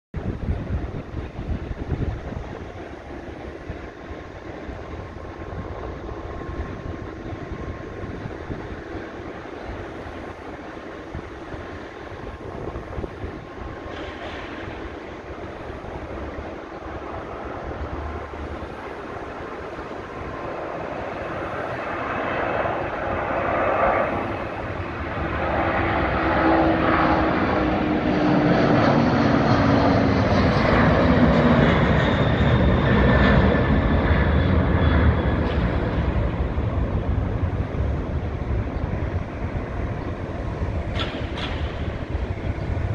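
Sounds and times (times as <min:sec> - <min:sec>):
deep jet rumble: 0:00.1 - 0:42.9
jet engine roar: 0:00.2 - 0:42.9.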